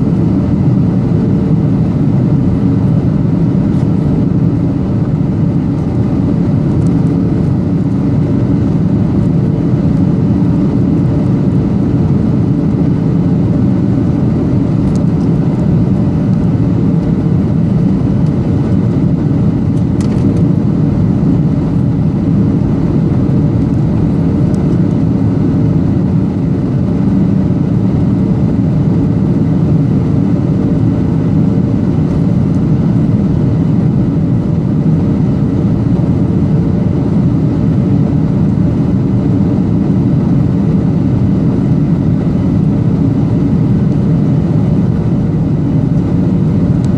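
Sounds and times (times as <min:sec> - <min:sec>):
air rushing along fuselage: 0:00.0 - 0:46.9
faint steady hum: 0:00.0 - 0:46.9
jet engine cabin drone: 0:00.0 - 0:46.9.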